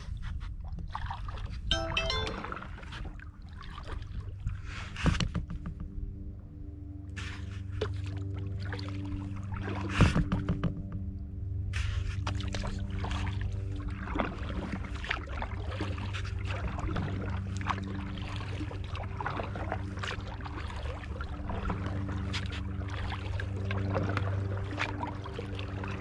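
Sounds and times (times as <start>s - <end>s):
water splashing around kayak: 0.0s - 1.8s, 2.4s - 6.1s, 7.1s - 26.0s.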